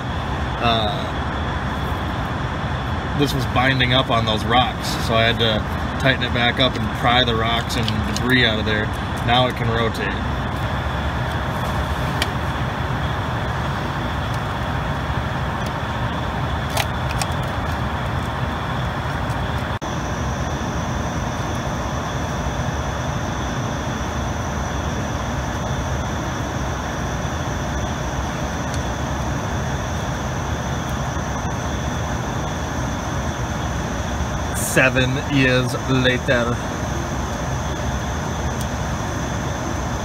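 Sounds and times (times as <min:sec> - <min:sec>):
fan-like machine noise: 0:00.0 - 0:40.0
high whine: 0:00.0 - 0:40.0.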